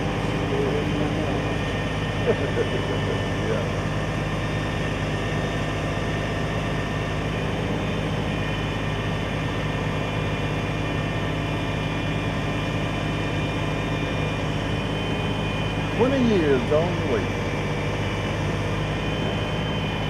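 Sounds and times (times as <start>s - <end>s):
large engine running steadily: 0.0s - 20.0s.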